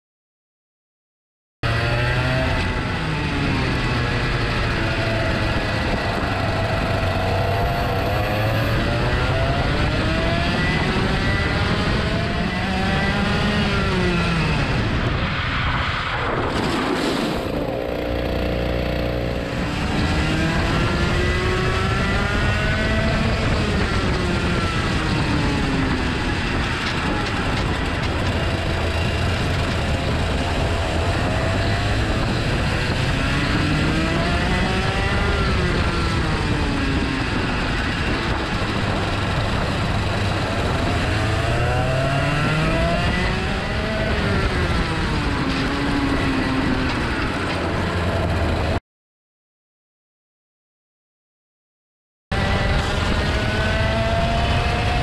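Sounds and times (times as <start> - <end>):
kart engine revving: 1.6 - 15.2, 16.5 - 48.8, 52.3 - 55.0.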